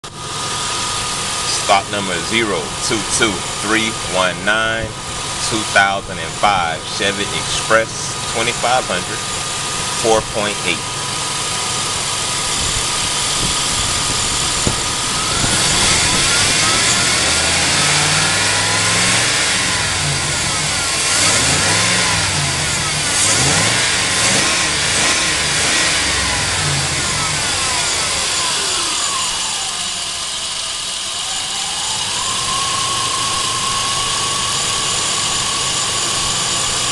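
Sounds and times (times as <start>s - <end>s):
engine idling and revving: 0.0s - 36.9s.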